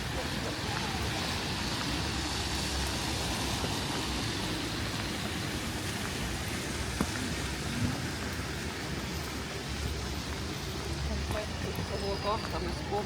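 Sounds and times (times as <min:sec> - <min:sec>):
rain on a street: 0:00.0 - 0:13.0.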